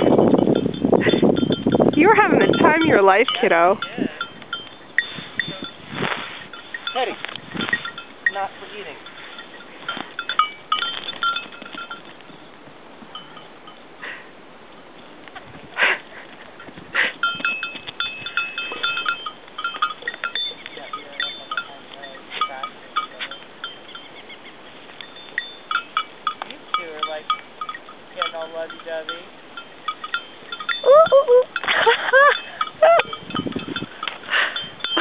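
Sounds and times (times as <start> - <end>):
goat bells jingling: 0.0 - 14.2, 16.1 - 35.0.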